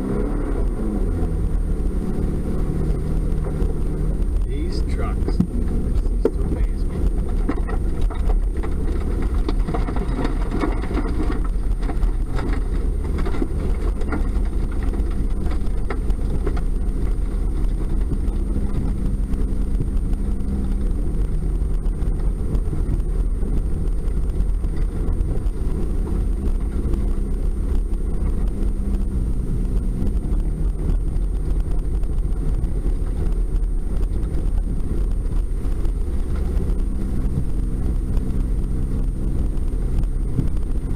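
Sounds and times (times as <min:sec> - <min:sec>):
truck engine rumbling: 0:00.0 - 0:40.9
knocks and rattles: 0:02.7 - 0:40.9.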